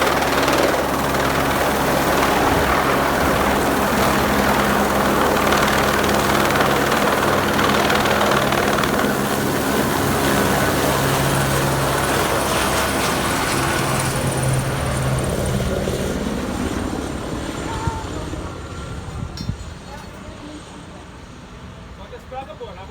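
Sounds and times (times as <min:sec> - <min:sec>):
helicopter rotor and engine: 0:00.0 - 0:22.9.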